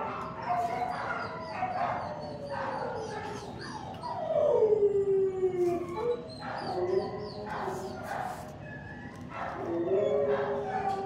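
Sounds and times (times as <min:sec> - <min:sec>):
dog howling: 0:00.0 - 0:08.0, 0:08.8 - 0:11.0.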